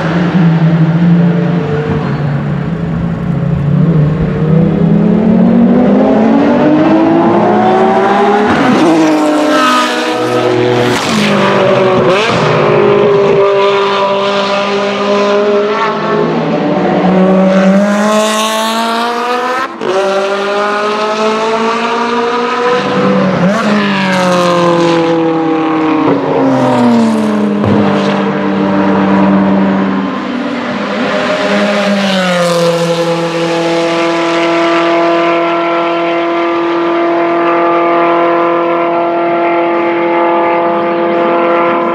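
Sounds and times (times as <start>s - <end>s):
cars passing by: 0.0s - 41.9s
race car engines at full throttle: 0.0s - 41.9s.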